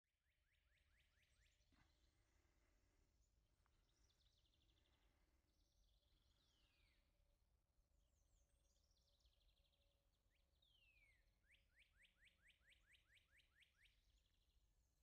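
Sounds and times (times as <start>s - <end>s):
faint birdsong: 0.1s - 15.0s.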